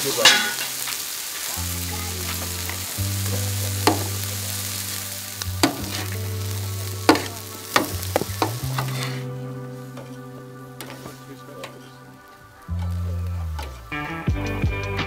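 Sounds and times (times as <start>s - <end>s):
food sizzling in a pan: 0.0s - 14.1s
background music with bass: 0.0s - 15.0s.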